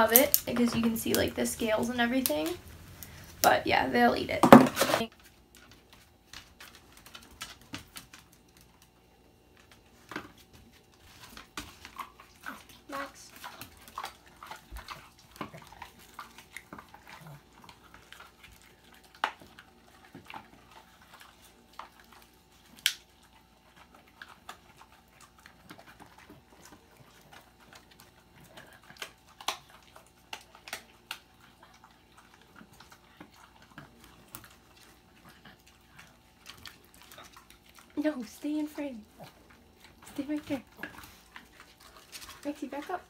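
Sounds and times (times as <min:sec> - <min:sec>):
dog gnawing and crunching chew: 0:00.0 - 0:43.0.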